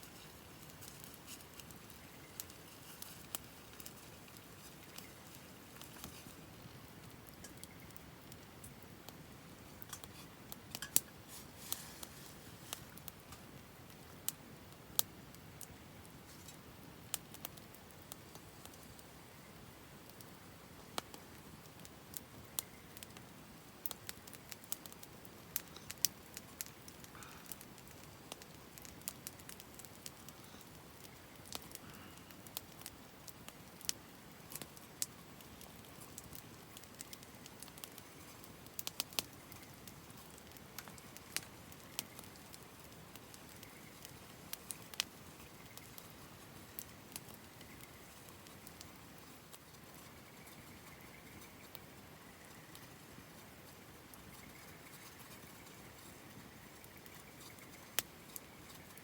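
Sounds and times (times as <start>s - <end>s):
campfire crackling: 0.0s - 59.0s
faint low hiss: 0.0s - 59.0s.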